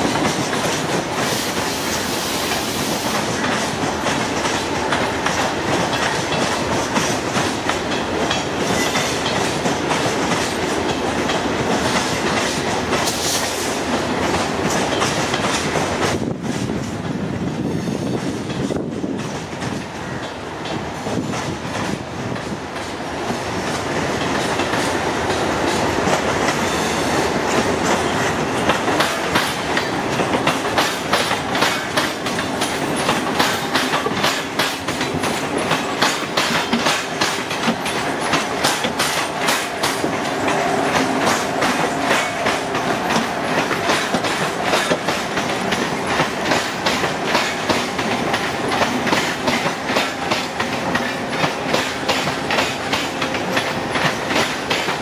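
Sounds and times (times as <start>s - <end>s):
steady locomotive hum: 0.0s - 55.0s
train wheels clattering over rail joints: 0.0s - 55.0s.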